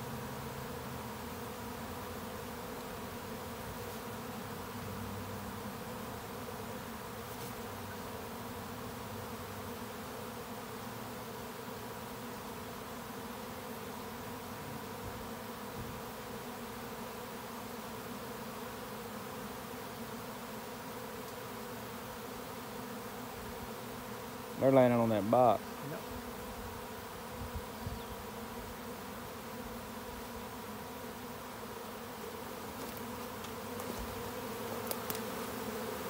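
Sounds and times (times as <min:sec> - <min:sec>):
bee swarm buzzing: 0:00.0 - 0:36.0.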